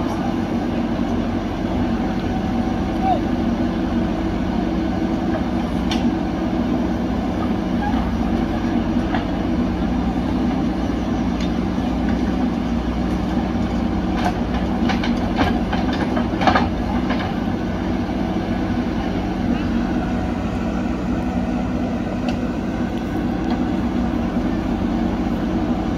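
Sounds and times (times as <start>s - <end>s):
backhoe diesel engine: 0.0s - 25.9s.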